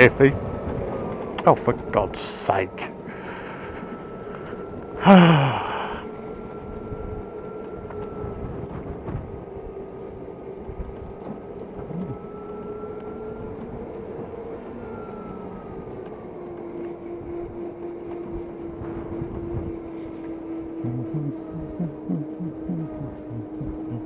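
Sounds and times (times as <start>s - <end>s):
electric motor whine: 0.0s - 24.0s
wind noise: 2.9s - 16.0s, 16.8s - 24.0s.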